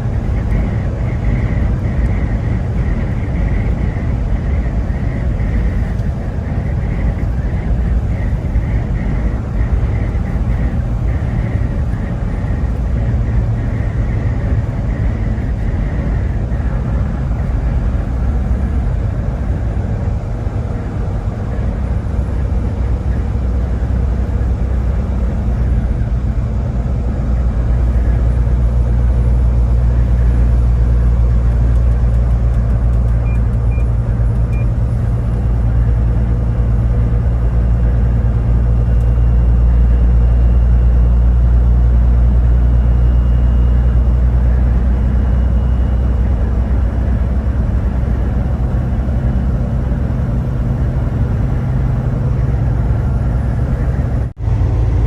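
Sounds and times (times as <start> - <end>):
vehicle engine and road rumble: 0.0 - 55.0.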